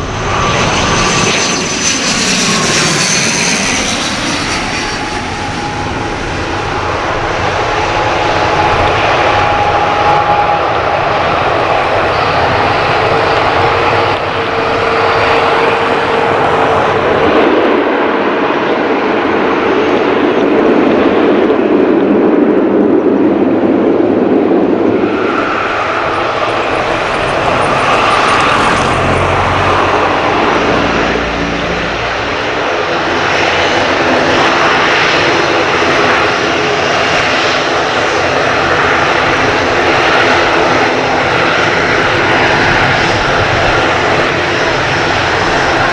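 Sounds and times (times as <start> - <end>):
jet engines: 0.0 - 45.9
turboprop engine: 0.0 - 45.9.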